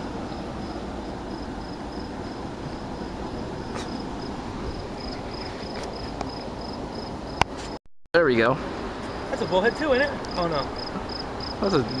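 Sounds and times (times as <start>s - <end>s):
cricket chirping: 0.0s - 7.5s, 9.0s - 12.0s.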